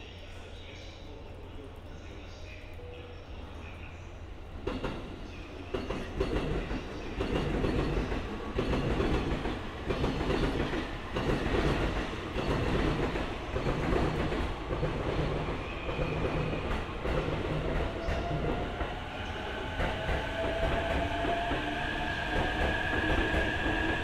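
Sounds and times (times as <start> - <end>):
low train rumble: 0.0 - 24.0
train wheels clickety-clack: 4.6 - 24.0.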